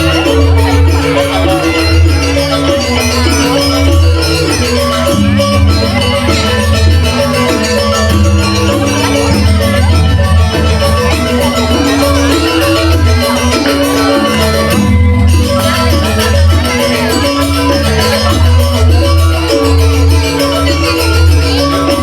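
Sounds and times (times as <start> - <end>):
metallophones playing melody: 0.0 - 22.0
small cymbals rattling: 0.0 - 22.0.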